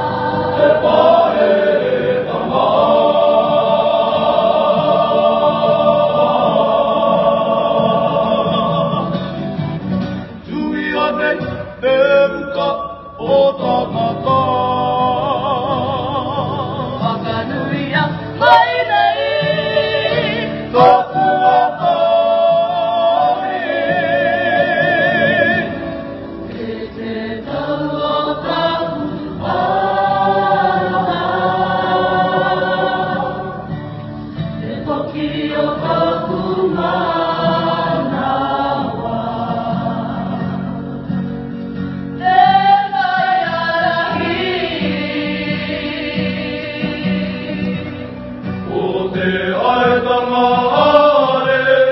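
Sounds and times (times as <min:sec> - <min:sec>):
choir singing: 0:00.0 - 0:09.5, 0:10.5 - 0:41.1, 0:42.2 - 0:51.9.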